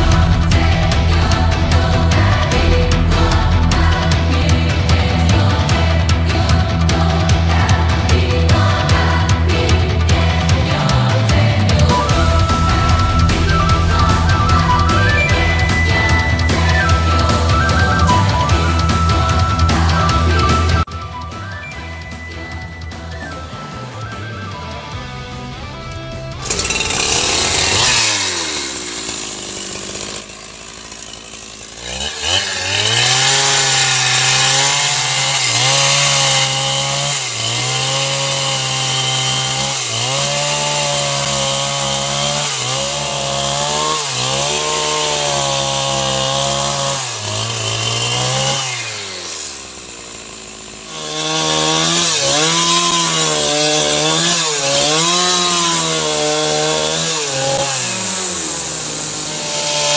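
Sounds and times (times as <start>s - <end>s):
chainsaw cutting timber: 0.0s - 59.9s.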